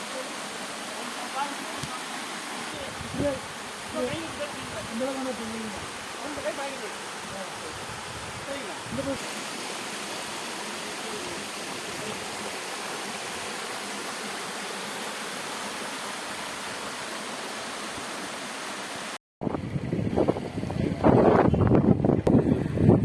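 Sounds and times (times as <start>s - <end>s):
falling water rushing: 0.0s - 19.2s.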